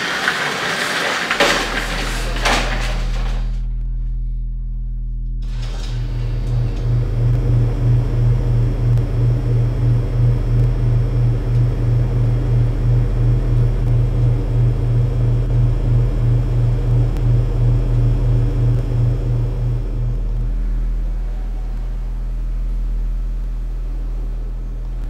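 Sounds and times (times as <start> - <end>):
mains-like drone: 0.2 - 25.0
throbbing machinery hum: 1.3 - 25.0.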